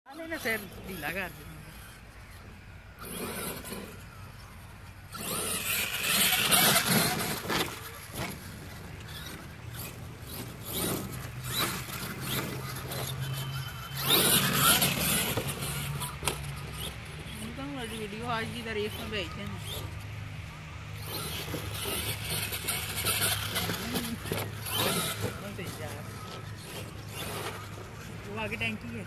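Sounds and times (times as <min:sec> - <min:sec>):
rc truck electric motor whining: 0:00.1 - 0:29.0.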